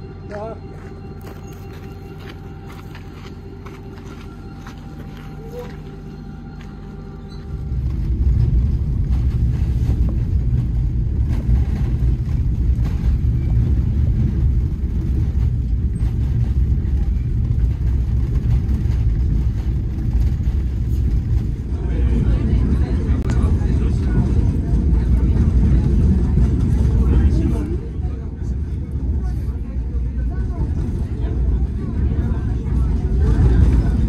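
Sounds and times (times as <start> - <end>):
low uneven train running noise: 0.0 - 34.0
train hum with held tones: 0.0 - 34.0.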